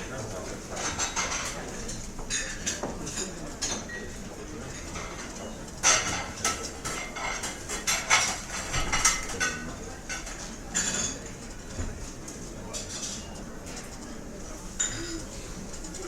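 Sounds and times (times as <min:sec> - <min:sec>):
dishes and cutlery clattering: 0:00.3 - 0:14.1, 0:14.7 - 0:16.0.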